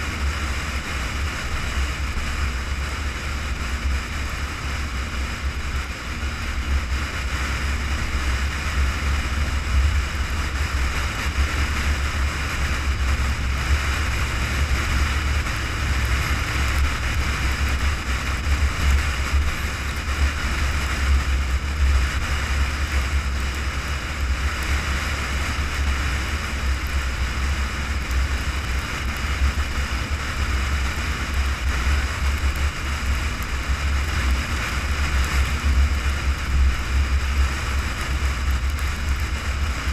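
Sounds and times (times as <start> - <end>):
road and tyre noise: 0.0 - 39.9
wind buffeting a camera: 0.0 - 39.9.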